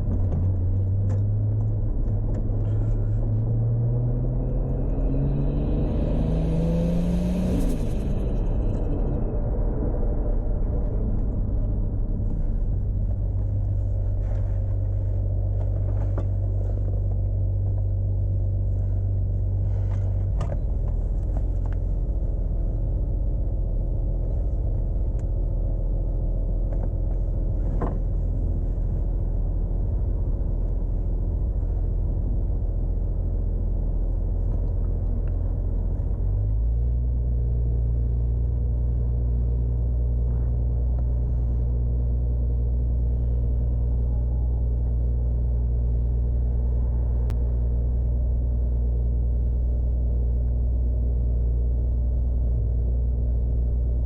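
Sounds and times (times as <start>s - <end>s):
car engine running at low revs: 0.0s - 54.0s.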